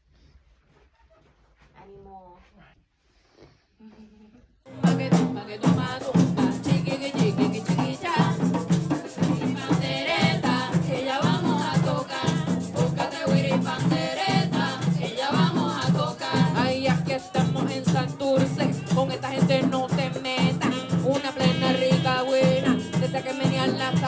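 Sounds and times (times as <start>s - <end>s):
music with percussion beat: 4.7s - 24.0s
person singing: 4.7s - 24.0s.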